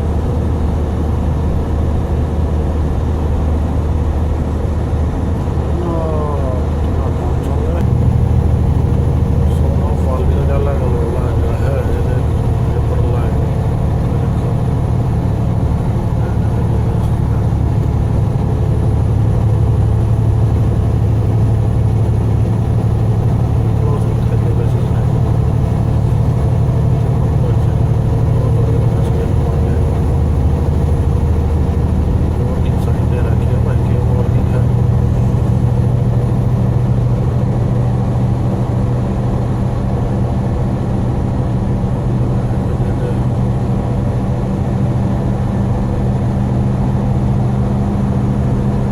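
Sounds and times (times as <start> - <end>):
vehicle engine and road drone: 0.0 - 48.9.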